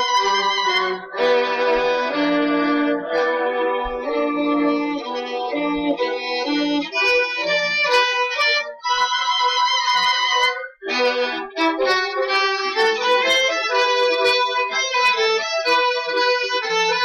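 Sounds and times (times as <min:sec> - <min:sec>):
violin playing: 0:00.0 - 0:17.0.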